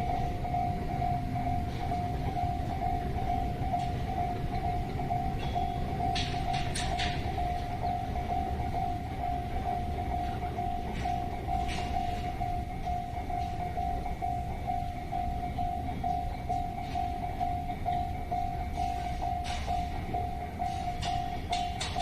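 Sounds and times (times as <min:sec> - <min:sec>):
level-crossing alarm dinging: 0:00.0 - 0:22.0
train rumbling past: 0:00.0 - 0:22.0.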